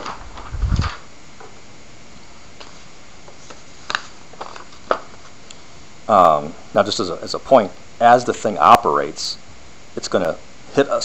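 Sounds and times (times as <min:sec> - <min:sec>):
room tone hiss: 0:00.0 - 0:11.0.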